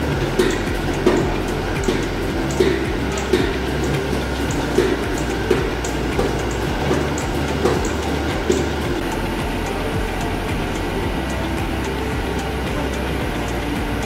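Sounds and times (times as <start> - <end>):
machine clacks: 0.0 - 14.0
machinery humming: 0.0 - 14.0.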